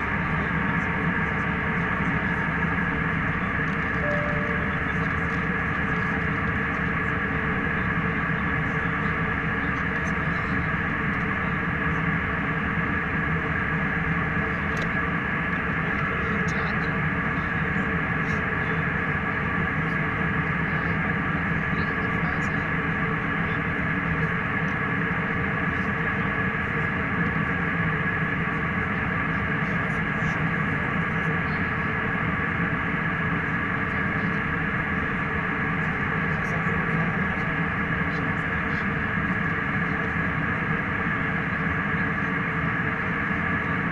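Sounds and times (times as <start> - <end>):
faint steady whine: 0.0 - 43.9
jet airliner cabin drone: 0.0 - 43.9.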